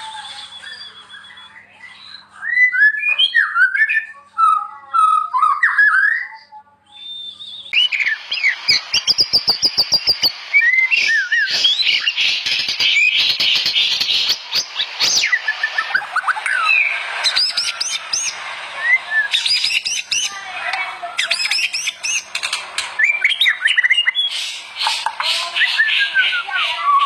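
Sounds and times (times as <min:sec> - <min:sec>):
bird singing whistled phrases: 0:00.0 - 0:20.4, 0:21.2 - 0:22.4, 0:23.0 - 0:27.0.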